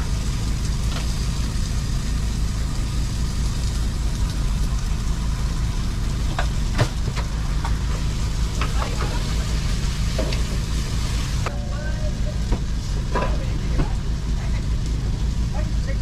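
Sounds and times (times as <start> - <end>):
portable generator humming: 0.0 - 16.0.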